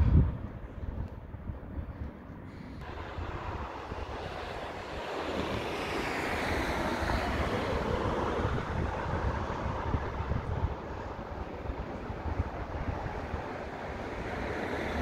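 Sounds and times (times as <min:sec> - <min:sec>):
wind rumbling on microphone: 0:00.0 - 0:15.0
vehicle passing: 0:02.8 - 0:15.0.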